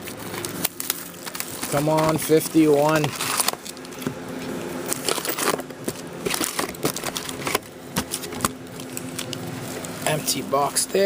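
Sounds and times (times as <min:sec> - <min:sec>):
wrappers crinkling: 0:00.0 - 0:10.8.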